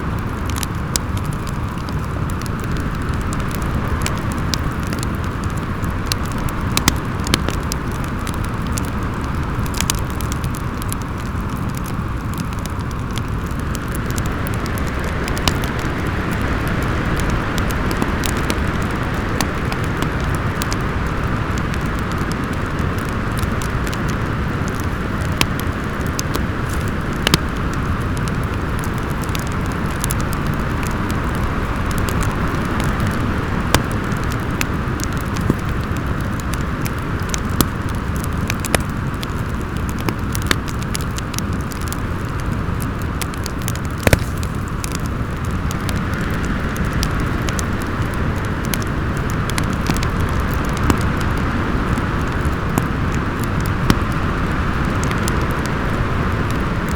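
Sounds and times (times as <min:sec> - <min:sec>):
fireplace crackling and popping: 0:00.0 - 0:56.9
howling wind: 0:00.0 - 0:56.9.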